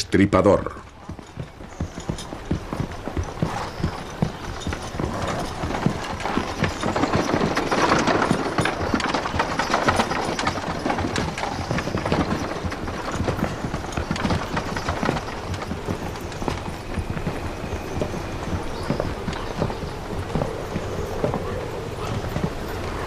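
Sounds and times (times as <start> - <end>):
background bustle: 0.0 - 23.0
horse hooves clip-clopping on dirt: 0.5 - 23.0.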